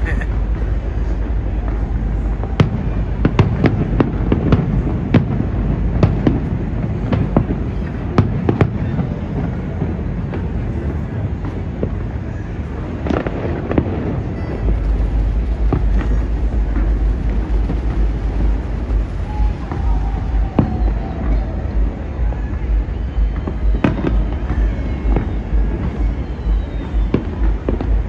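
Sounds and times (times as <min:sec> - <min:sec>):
distant fireworks bangs and pops: 0:00.0 - 0:28.0
low rumble: 0:00.0 - 0:28.0.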